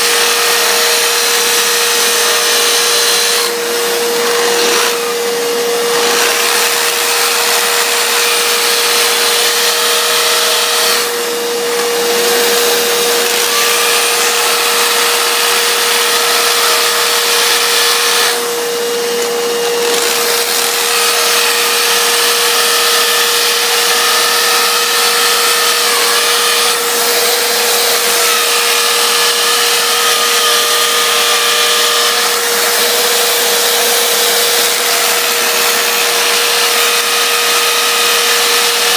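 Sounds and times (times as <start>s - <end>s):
electric motor whining: 0.0s - 38.9s.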